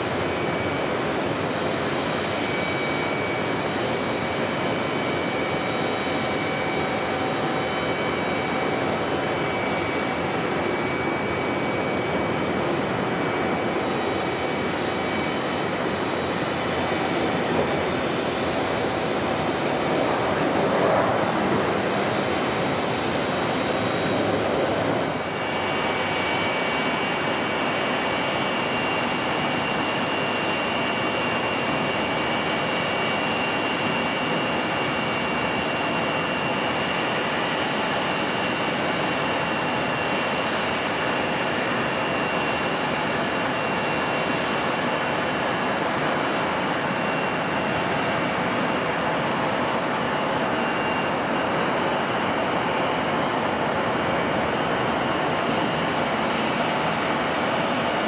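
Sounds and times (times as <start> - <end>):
jet engines on runway: 0.0 - 58.0
jet engines whining on approach: 0.0 - 58.0.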